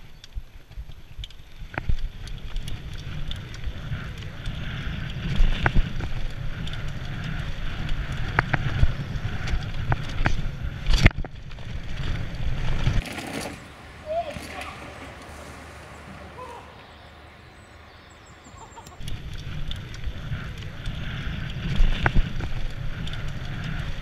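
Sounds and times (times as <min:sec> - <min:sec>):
bike knocks and rattles: 0:00.1 - 0:15.4, 0:19.0 - 0:24.0
tyres rumbling over dirt: 0:01.6 - 0:24.0.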